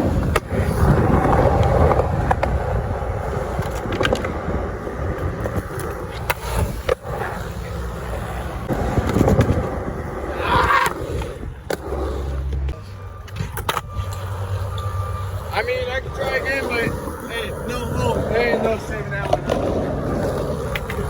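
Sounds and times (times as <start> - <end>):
skateboard wheels rolling on concrete: 0.0 - 21.0.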